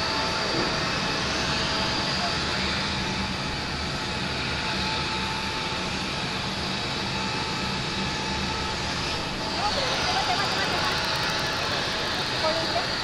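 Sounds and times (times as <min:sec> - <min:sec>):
continuous rushing hum: 0:00.0 - 0:13.0
thin steady whine: 0:00.2 - 0:13.0.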